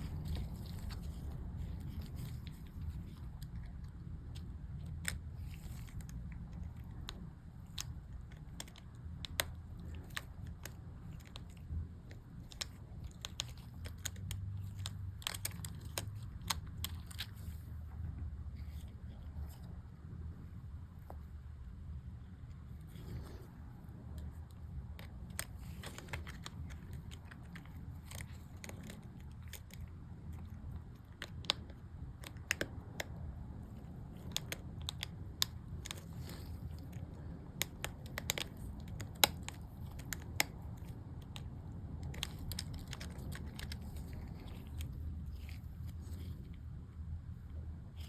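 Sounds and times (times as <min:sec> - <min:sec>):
plastic keycaps clicking on: 0:00.0 - 0:17.6, 0:24.2 - 0:46.4
low steady hum: 0:00.0 - 0:48.0.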